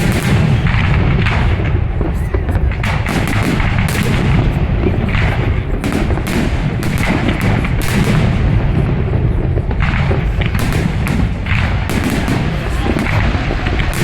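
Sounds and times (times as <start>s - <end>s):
continuous low rumble: 0.0s - 14.0s
fireworks bursting with loud bangs: 0.0s - 14.0s.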